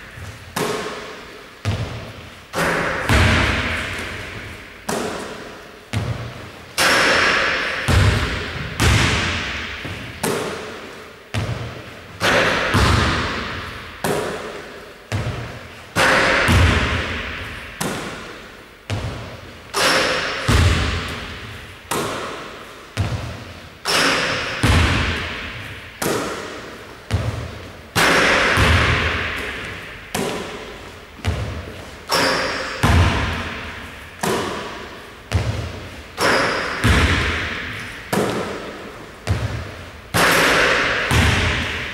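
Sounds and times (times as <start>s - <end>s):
basketball bouncing on wooden floor: 0.2s - 6.4s, 7.9s - 10.7s, 11.3s - 14.4s, 15.1s - 18.3s, 18.9s - 22.4s, 23.0s - 26.5s, 27.1s - 41.9s
ball hitting hoop: 0.2s - 41.9s.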